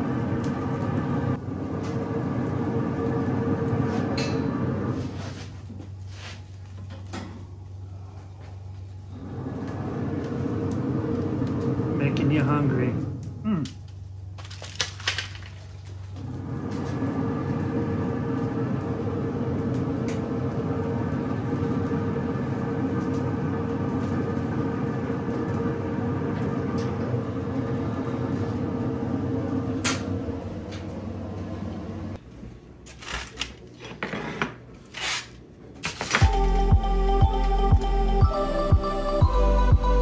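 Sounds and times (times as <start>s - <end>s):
machine hum with drone: 0.0s - 32.3s, 36.0s - 40.0s.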